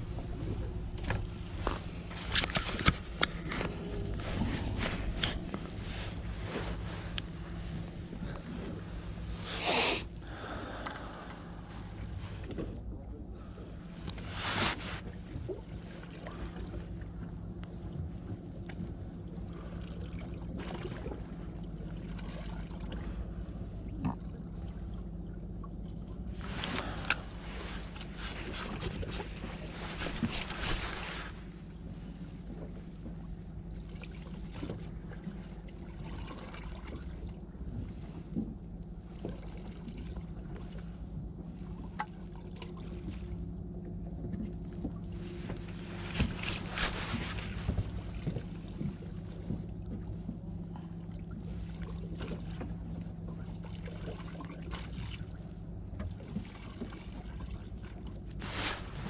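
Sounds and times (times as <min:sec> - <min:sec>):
boat engine idling: 0:00.0 - 0:59.0.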